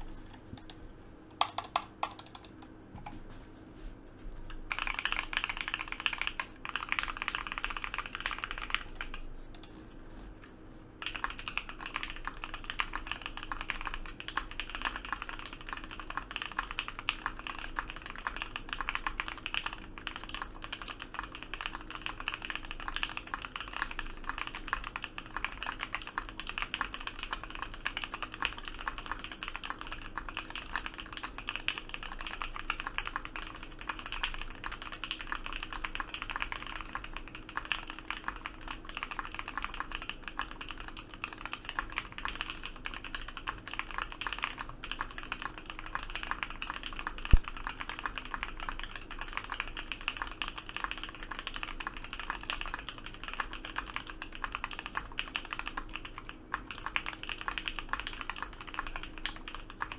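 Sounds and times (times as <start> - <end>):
mechanical keyboard typing: 0.6 - 2.6, 4.7 - 9.8, 11.0 - 59.9.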